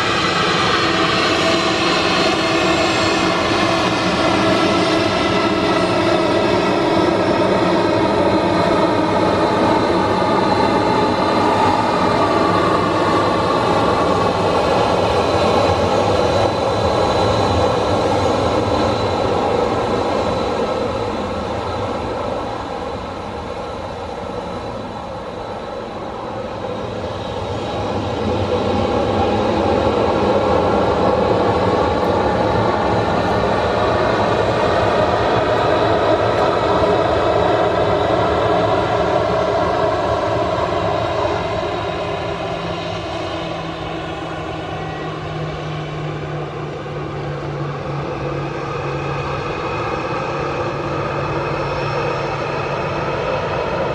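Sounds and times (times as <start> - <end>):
jet engines whining: 0.0 - 53.9.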